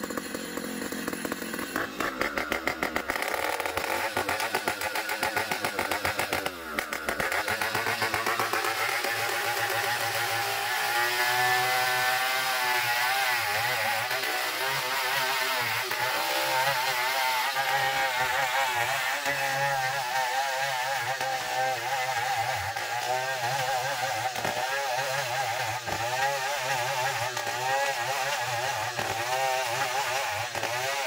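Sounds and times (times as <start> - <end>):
sawmill cutting log: 0.0 - 31.0.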